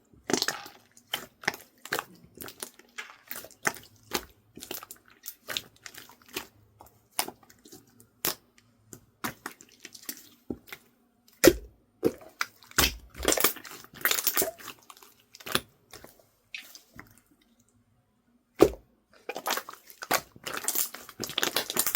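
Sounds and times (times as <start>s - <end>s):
slime squishing and crackling: 0.2s - 8.6s, 9.2s - 17.2s, 18.6s - 21.9s.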